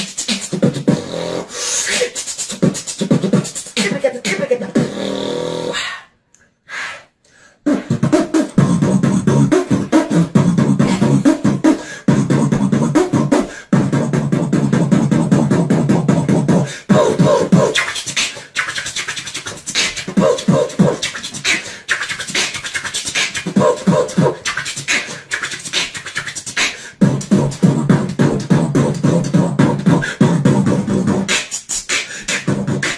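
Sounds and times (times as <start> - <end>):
beatboxing: 0.0 - 6.1, 7.0 - 32.9.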